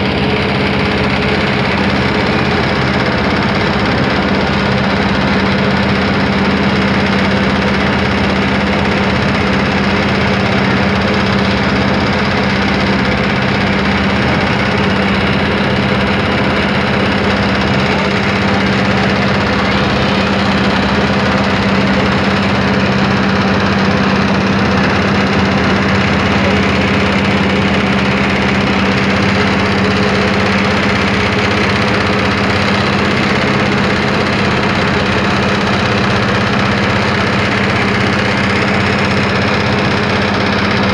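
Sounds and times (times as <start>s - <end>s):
boat engine drone: 0.0s - 40.9s.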